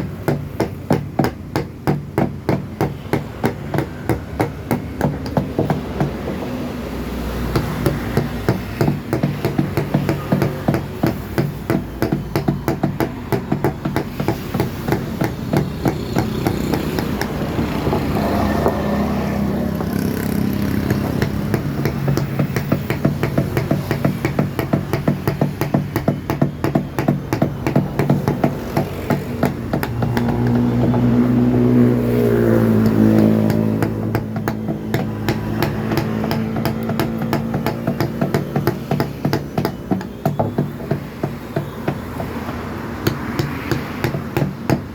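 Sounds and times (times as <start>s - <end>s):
mallet tapping chisel into wood: 0.0s - 44.9s
engine humming: 2.8s - 44.9s.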